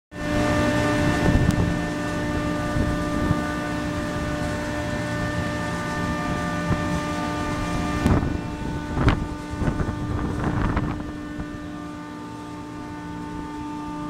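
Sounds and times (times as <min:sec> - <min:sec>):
wind buffeting microphone: 0:00.2 - 0:13.9
machinery humming: 0:00.2 - 0:14.0
machinery whining tones: 0:00.2 - 0:14.0.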